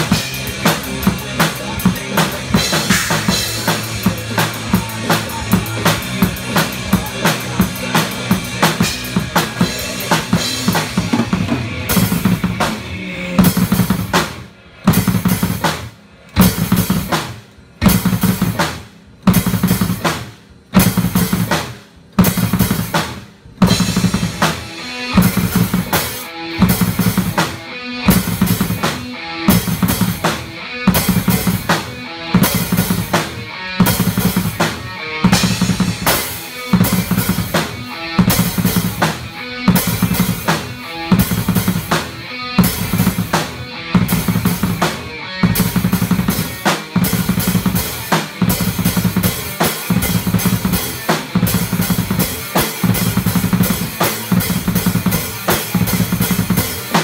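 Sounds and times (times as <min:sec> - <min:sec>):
drum kit rock beat: 0:00.0 - 0:57.0.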